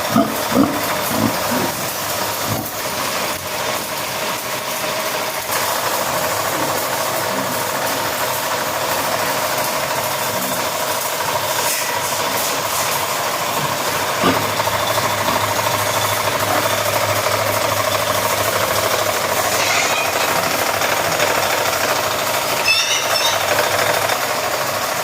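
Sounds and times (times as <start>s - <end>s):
rattling machine running: 0.0s - 25.0s.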